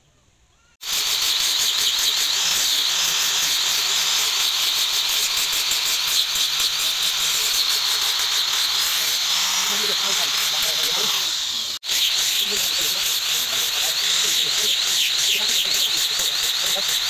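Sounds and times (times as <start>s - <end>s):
abrasive sanding rasp: 0.8s - 17.0s.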